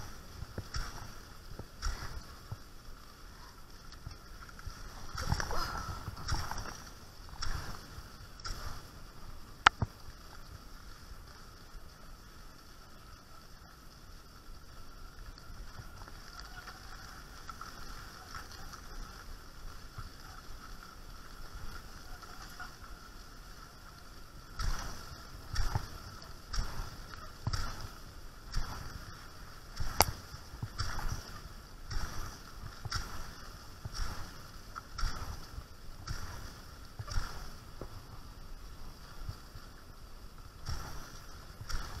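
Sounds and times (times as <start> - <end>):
skis sliding over snow: 0.0 - 42.0.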